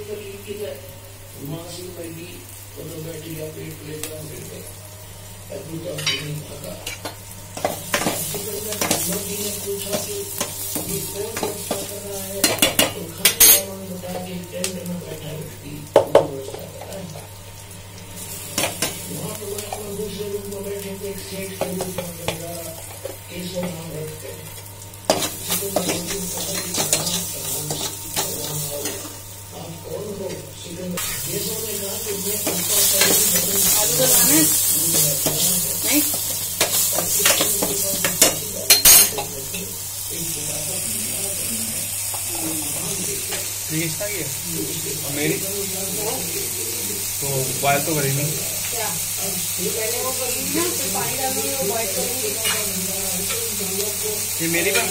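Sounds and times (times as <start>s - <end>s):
onions sizzling in a wok: 0.0s - 54.9s.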